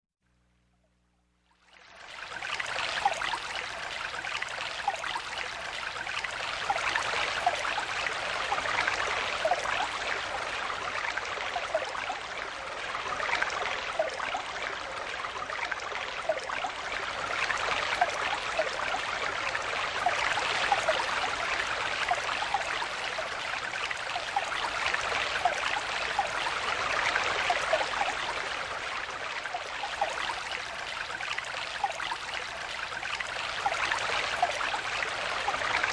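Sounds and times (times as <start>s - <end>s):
stream flowing over stones: 1.7s - 35.9s.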